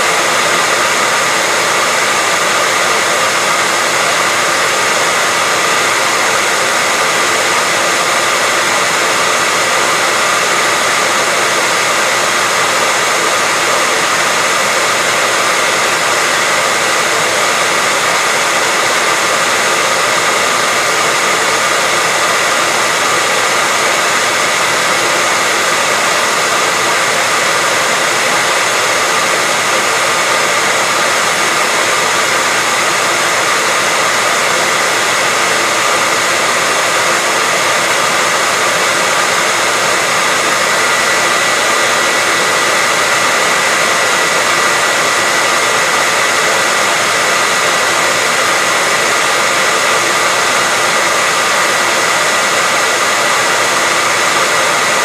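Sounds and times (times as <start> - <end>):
hairdryer running: 0.0 - 55.0.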